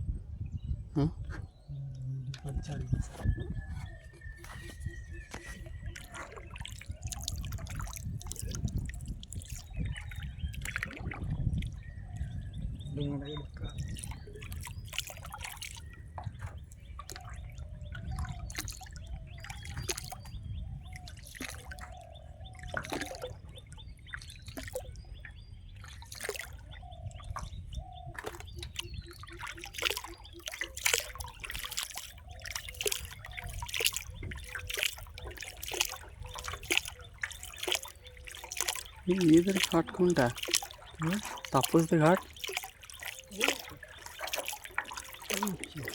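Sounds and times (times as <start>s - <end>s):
water splashing and dripping: 2.2s - 45.9s.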